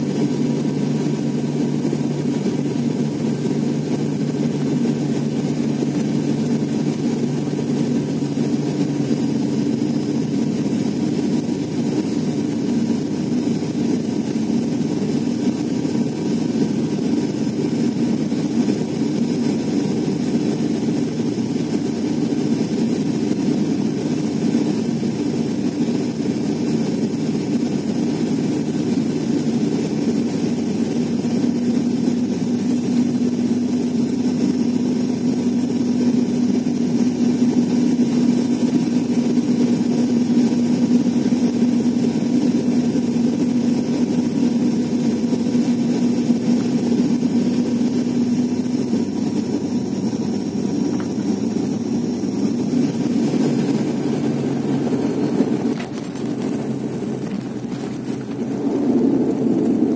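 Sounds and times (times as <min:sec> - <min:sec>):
steady humming tone: 0:00.0 - 0:59.9
turboprop cabin drone: 0:00.0 - 0:59.9.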